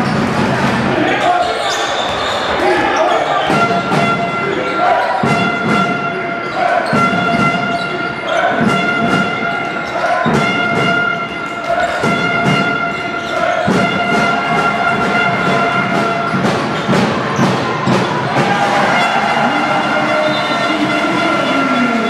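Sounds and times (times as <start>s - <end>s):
hall noise: 2.6s - 22.0s.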